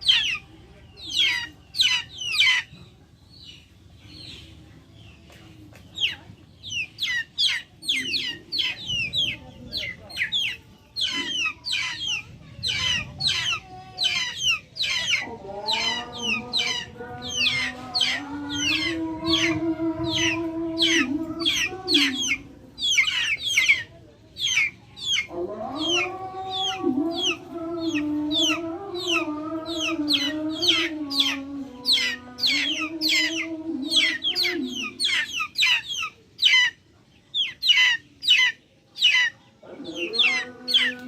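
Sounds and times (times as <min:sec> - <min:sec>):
chicks peeping and chirping: 0:00.0 - 0:41.0.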